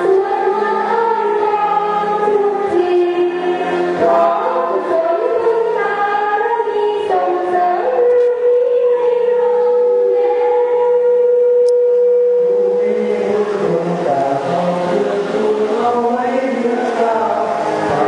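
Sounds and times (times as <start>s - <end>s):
choir singing in harmony: 0.0s - 11.6s, 12.5s - 18.0s.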